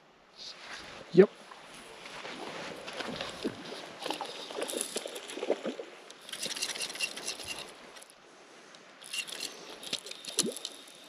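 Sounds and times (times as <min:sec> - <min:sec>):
crackles and squelches on wet grass: 0:00.4 - 0:11.0.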